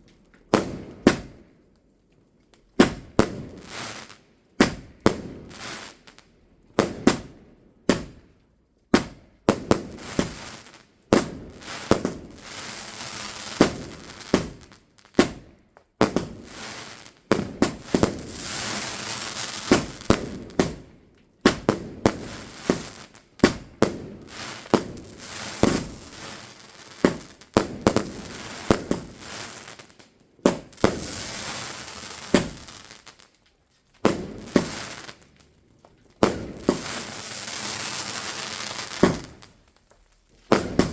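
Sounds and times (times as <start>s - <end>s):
crackling hiss: 0.0s - 40.9s
fireworks bangs: 2.8s - 6.2s, 6.8s - 8.3s, 8.9s - 39.8s, 40.4s - 40.9s.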